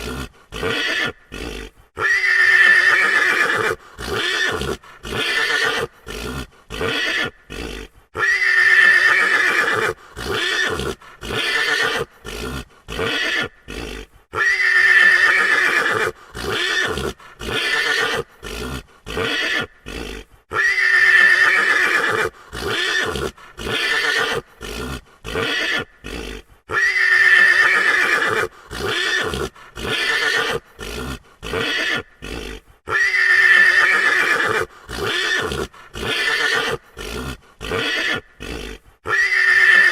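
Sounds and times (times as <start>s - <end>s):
horse neighing loudly: 0.0s - 39.9s.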